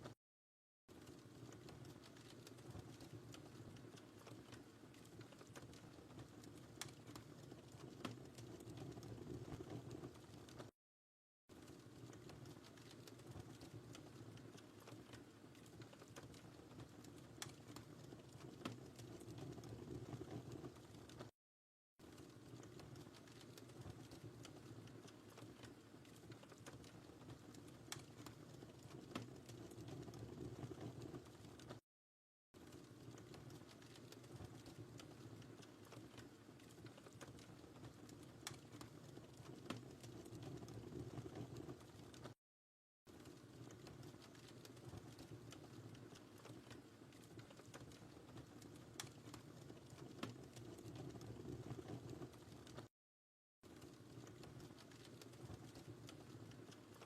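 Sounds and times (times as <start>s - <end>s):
low rumble of flame: 0.9s - 10.7s, 11.6s - 21.3s, 22.1s - 31.8s, 32.6s - 42.4s, 43.2s - 52.9s, 53.8s - 57.0s
wood fire crackling: 0.9s - 10.8s, 11.5s - 21.3s, 22.0s - 31.8s, 32.6s - 42.4s, 43.1s - 52.9s, 53.6s - 57.0s.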